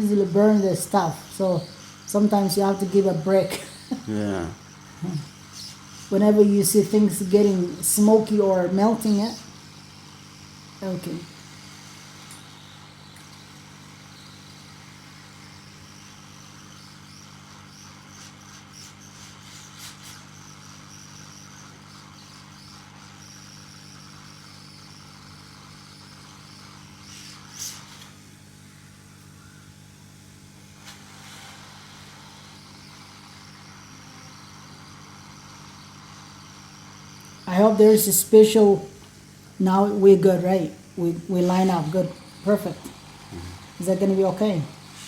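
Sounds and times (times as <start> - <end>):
hot air blower hissing: 0.0 - 45.0.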